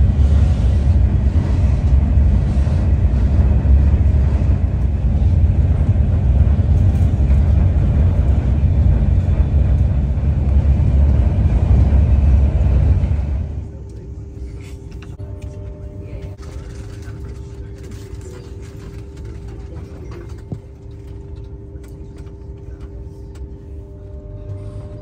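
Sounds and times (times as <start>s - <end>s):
vehicle low rumble: 0.0s - 25.0s.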